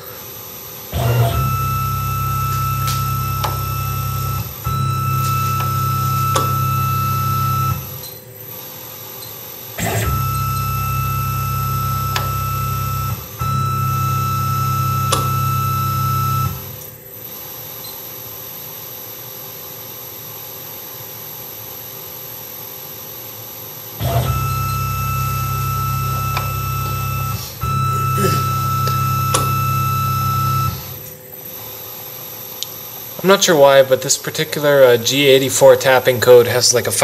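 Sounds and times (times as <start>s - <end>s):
mill spindle motor whine: 0.0s - 37.0s.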